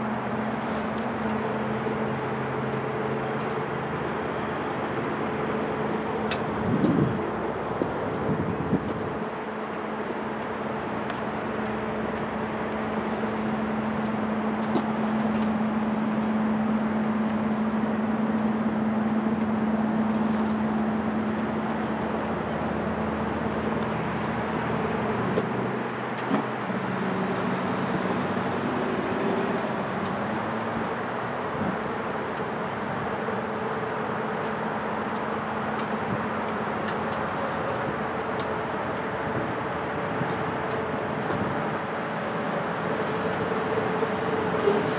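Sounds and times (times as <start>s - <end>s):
traffic noise: 0.0s - 44.9s
vehicle engine hum: 0.0s - 44.9s.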